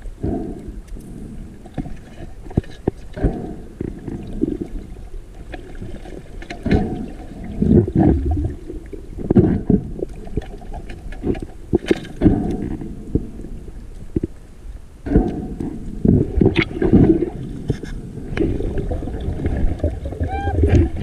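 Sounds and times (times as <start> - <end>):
muffled underwater water rumbles: 0.0 - 21.0.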